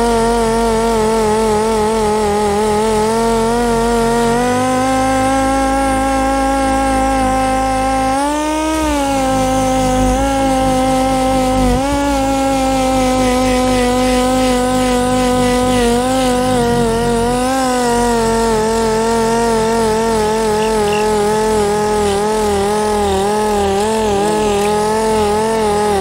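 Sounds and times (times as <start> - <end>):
air sander whining: 0.0 - 26.0.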